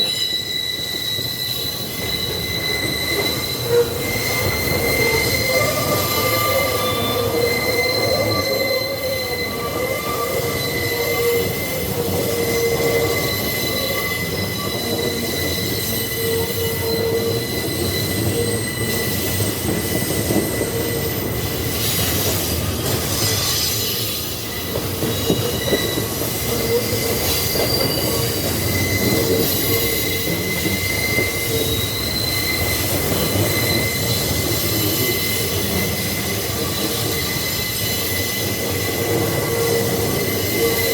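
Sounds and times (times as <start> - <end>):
high-pitched wheel squealing: 0.0 - 40.9
train wheels rumbling and rattling: 0.0 - 40.9.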